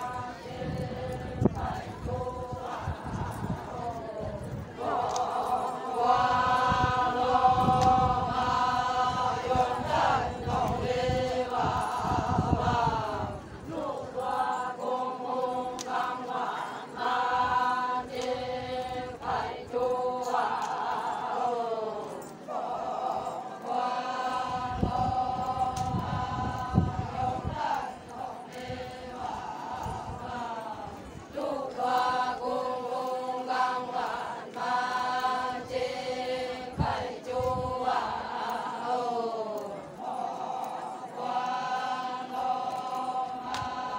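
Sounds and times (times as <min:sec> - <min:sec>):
women chanting in unison: 0:00.0 - 0:43.9.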